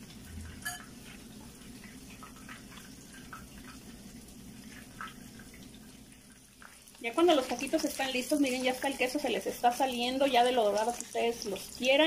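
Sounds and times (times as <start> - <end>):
crackles and pops of frying: 0.0 - 12.0
food frying in oil: 0.0 - 12.0
low steady hum: 0.0 - 12.0.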